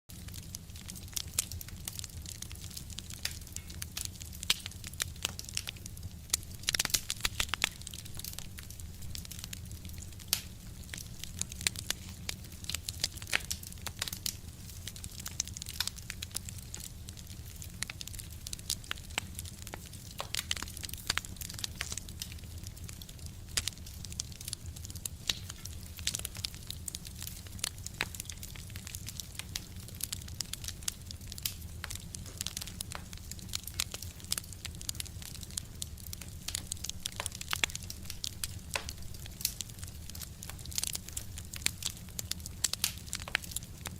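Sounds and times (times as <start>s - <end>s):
fire crackling: 0.1s - 43.9s.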